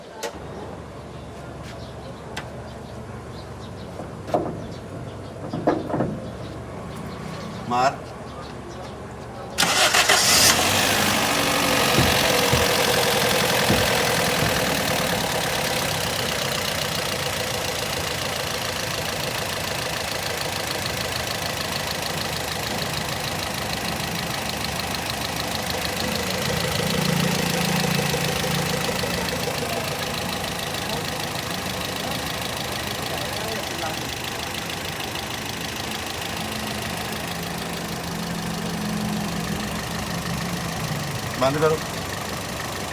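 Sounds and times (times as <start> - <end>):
petrol engine idling: 0.1 - 42.9.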